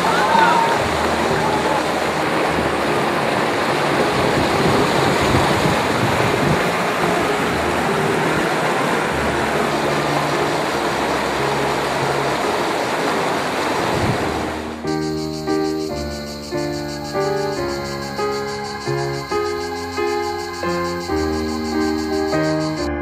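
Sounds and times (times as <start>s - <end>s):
river rapids rushing over rocks: 0.0s - 22.9s.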